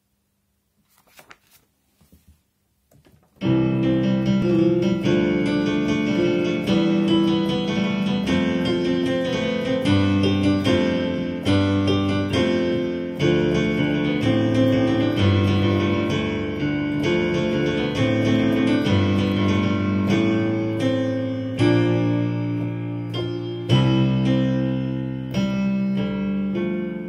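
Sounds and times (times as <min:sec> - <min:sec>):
electronic keyboard piano tune: 0:03.4 - 0:27.0.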